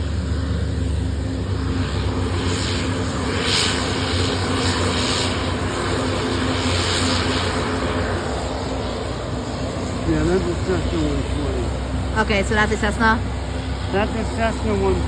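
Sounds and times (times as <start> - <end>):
propeller aeroplane engine drone: 0.0 - 15.0.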